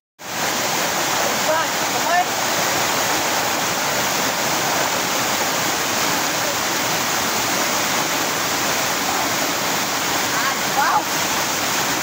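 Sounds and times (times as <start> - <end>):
waterfall pouring over rocks: 0.2 - 12.0.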